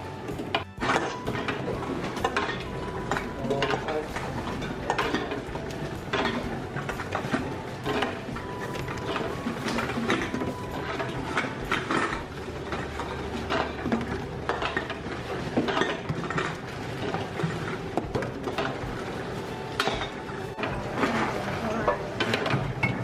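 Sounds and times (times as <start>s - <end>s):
bottles knocking and rattling: 0.0s - 23.0s.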